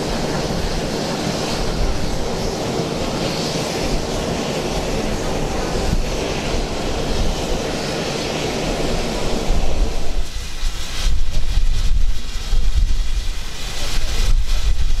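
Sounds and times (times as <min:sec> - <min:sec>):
steam hissing from locomotive: 0:00.0 - 0:15.0
wind buffeting microphone: 0:00.0 - 0:15.0.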